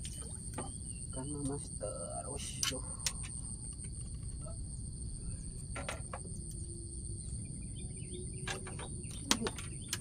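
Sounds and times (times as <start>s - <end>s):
insects trilling: 0.0s - 10.0s
low background rumble: 0.0s - 10.0s.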